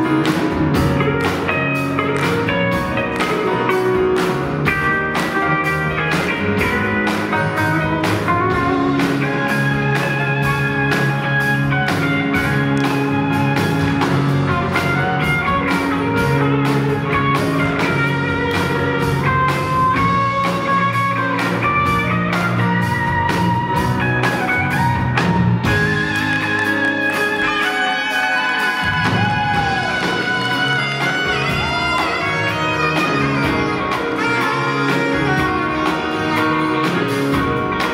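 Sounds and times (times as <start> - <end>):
bending lead guitar notes: 0.0 - 37.9
guitars playing: 0.0 - 37.9
steady drum beat: 0.0 - 37.9.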